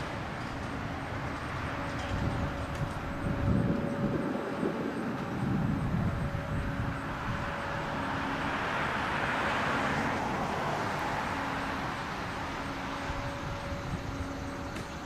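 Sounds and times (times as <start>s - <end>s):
low traffic rumble: 0.0s - 15.0s
vehicle passing: 2.4s - 15.0s.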